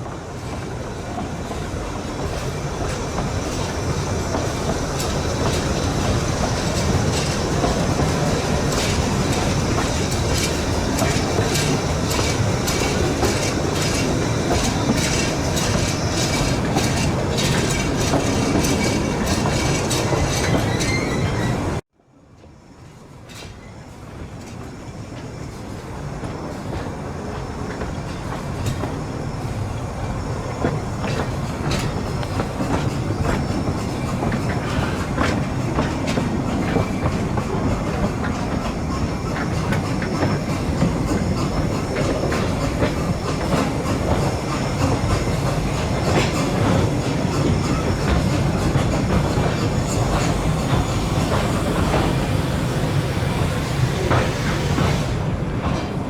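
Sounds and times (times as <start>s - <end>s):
railway carriage rumbling: 0.0s - 56.0s
wheels clattering over rail joints: 2.2s - 21.8s, 30.4s - 56.0s.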